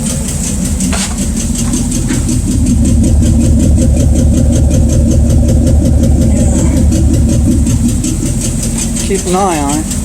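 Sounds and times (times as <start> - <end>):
car engine idling: 0.0 - 10.0
rapid valve-train ticking: 0.0 - 10.0.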